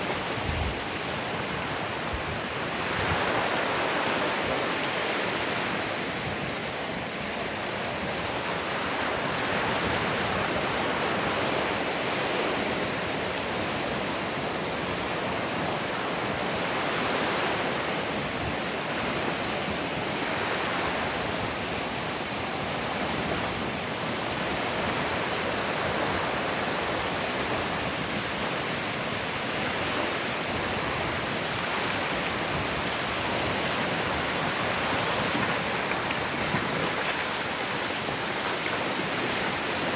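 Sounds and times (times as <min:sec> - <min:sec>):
ocean surf on sandy beach: 0:00.0 - 0:39.9.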